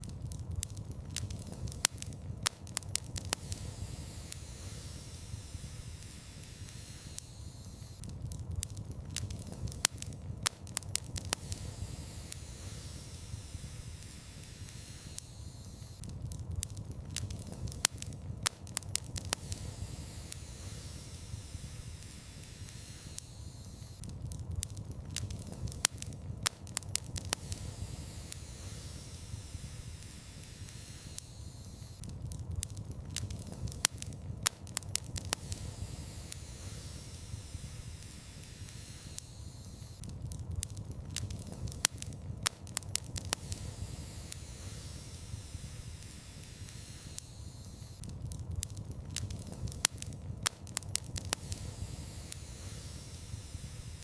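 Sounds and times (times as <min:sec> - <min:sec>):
fire crackles and pops: 0:00.0 - 0:54.0
fire rumbling in a fireplace: 0:00.0 - 0:54.0.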